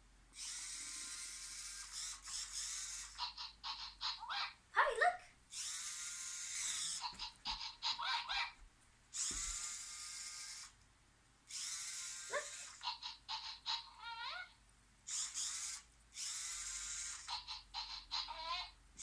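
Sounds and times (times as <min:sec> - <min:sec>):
toy robot motor whirring: 0:00.3 - 0:04.6, 0:05.5 - 0:10.8, 0:11.5 - 0:19.0.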